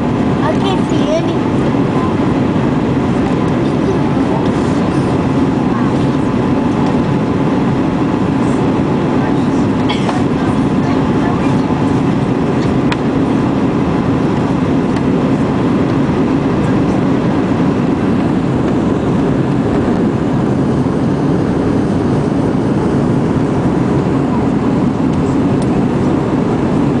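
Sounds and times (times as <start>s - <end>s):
jet engine cabin roar: 0.0s - 27.0s.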